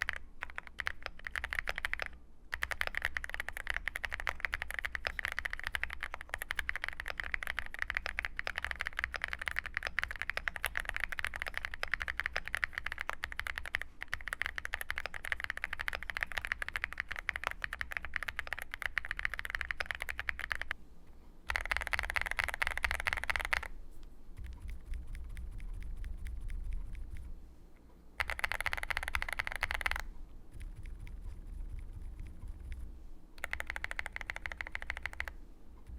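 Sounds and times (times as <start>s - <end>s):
fast typing on mechanical keyboard: 0.0s - 20.8s, 21.5s - 23.7s, 24.4s - 27.3s, 28.2s - 35.9s.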